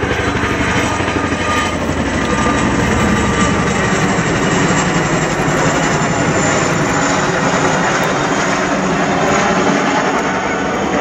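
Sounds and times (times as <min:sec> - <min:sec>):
helicopter rotors beating: 0:00.0 - 0:11.0
turbine engine whine: 0:00.0 - 0:11.0.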